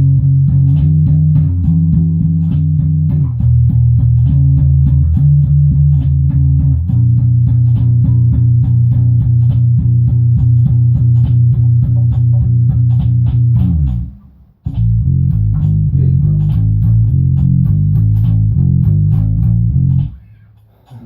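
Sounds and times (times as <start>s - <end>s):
bass guitar sustained notes: 0.0s - 20.2s
steady beat: 0.0s - 21.0s.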